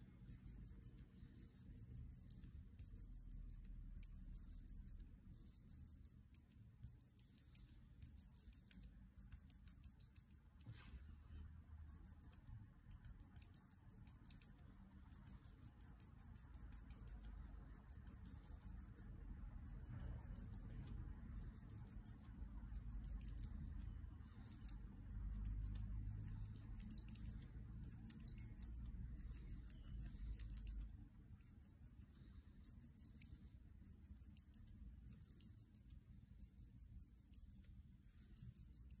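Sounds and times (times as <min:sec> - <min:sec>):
marker nib scratching on paper: 0:00.0 - 0:11.1, 0:11.8 - 0:39.0.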